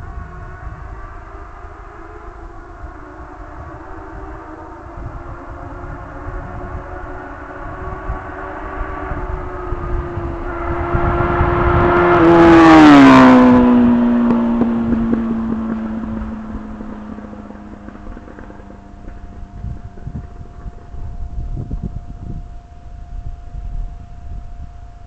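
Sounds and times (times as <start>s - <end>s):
motorcycle passing at speed: 0.0s - 24.7s.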